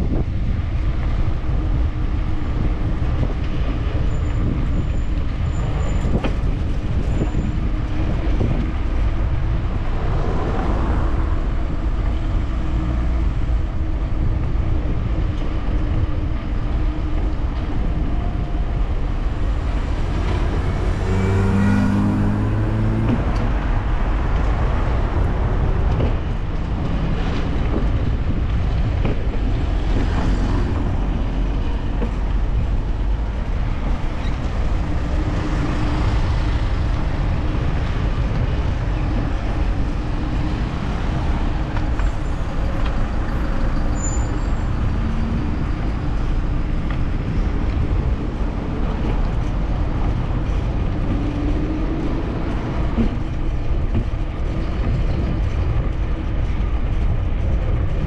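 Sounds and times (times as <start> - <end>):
bicycle tyre and road noise: 0.0 - 58.0
wind rushing over microphone: 0.0 - 58.0.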